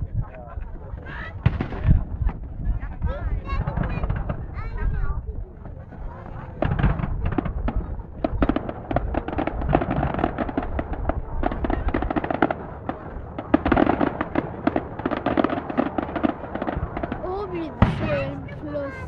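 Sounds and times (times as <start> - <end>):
fireworks crackling and banging: 0.7 - 19.0.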